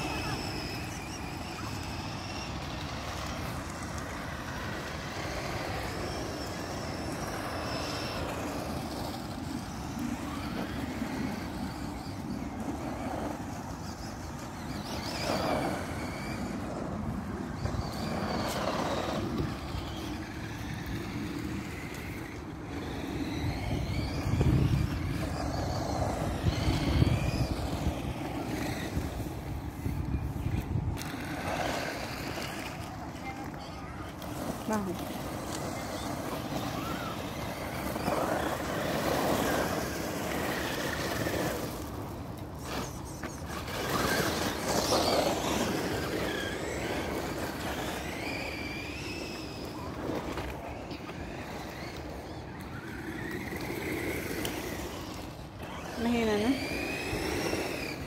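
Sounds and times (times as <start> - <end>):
steady noisy rumble: 0.0 - 58.0
toy car motors whining: 0.0 - 58.0.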